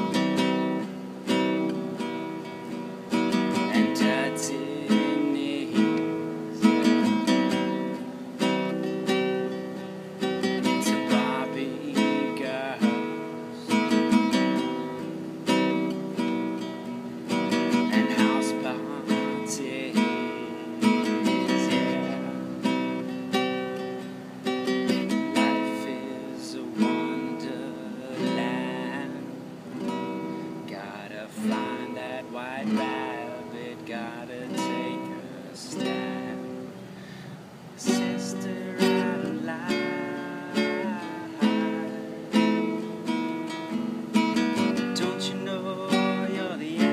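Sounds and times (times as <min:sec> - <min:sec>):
classical guitar chords: 0:00.0 - 0:46.9.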